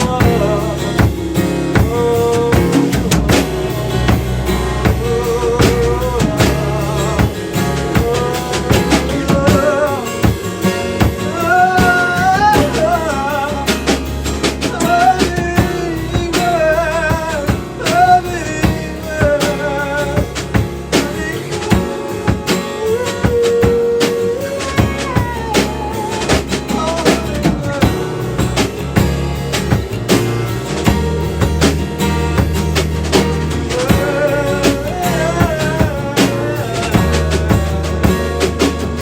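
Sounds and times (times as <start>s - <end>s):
person singing with vibrato: 0.0s - 29.5s, 30.5s - 39.0s
drum kit beat: 0.0s - 39.0s
guitar: 0.0s - 39.0s.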